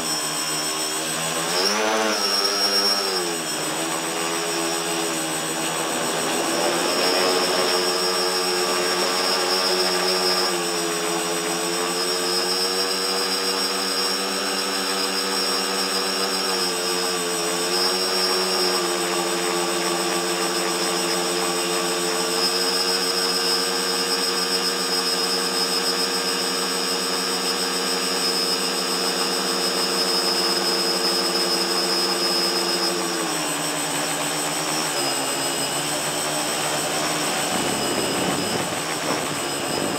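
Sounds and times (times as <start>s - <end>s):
drone motors and propellers whining: 0.0s - 39.9s.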